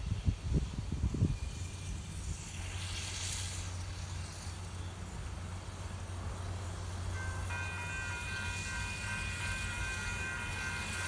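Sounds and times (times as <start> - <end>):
steam locomotive rumbling: 0.0 - 11.0.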